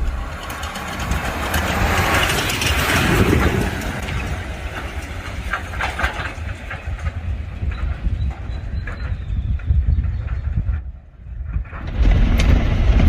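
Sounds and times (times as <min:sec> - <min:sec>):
clicks and rattles: 0:00.0 - 0:12.9
vehicle engine rumble: 0:00.0 - 0:13.0.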